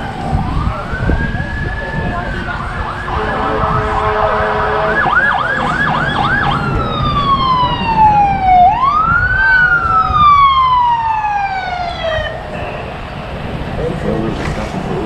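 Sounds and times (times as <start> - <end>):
emergency vehicle siren: 0.0 - 14.9.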